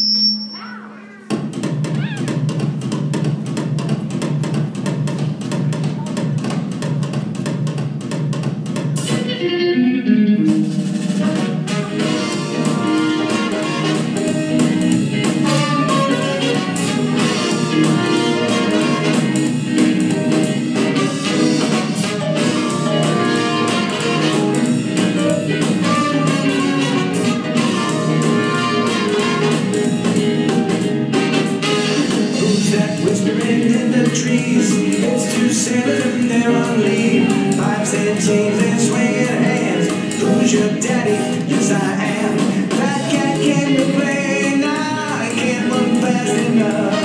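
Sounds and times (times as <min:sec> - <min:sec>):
upbeat swing music: 0:01.2 - 0:47.0.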